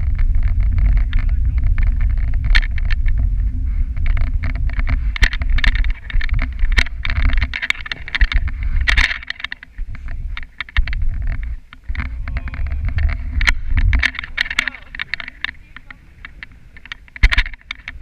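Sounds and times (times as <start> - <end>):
heavy low rumble: 0.0 - 18.0
sled frame rattling and knocking: 0.0 - 18.0
sled runners scraping snow: 0.0 - 18.0.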